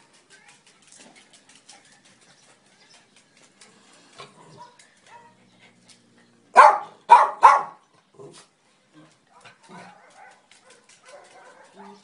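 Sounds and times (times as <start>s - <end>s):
quiet scuffling and rustles: 0.0s - 6.4s, 8.3s - 12.0s.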